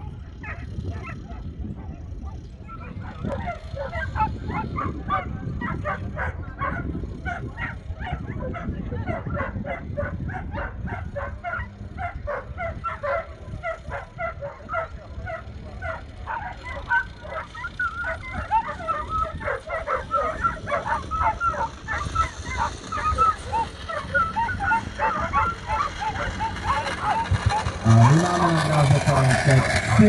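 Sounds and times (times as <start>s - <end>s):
dogs yipping and barking: 0.0s - 30.0s.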